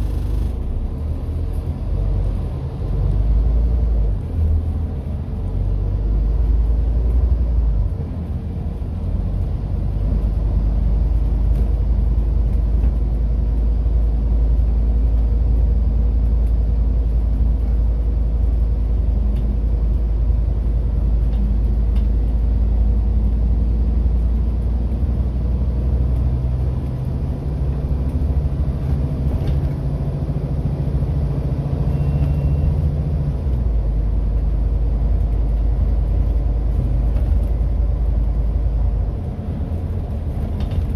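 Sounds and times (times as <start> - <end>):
diesel bus engine rumbling: 0.0 - 40.9.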